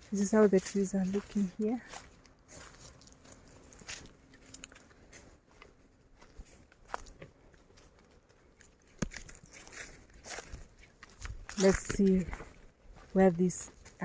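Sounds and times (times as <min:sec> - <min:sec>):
footsteps on leaves and twigs: 0:00.0 - 0:14.0.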